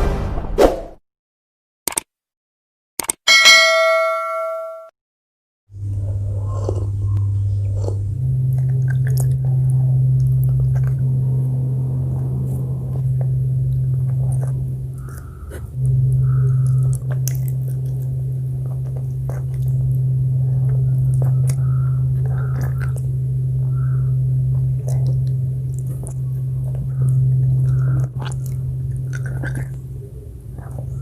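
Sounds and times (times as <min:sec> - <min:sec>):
close-miked chewing: 0:05.8 - 0:31.0
steady low hum: 0:05.8 - 0:31.0.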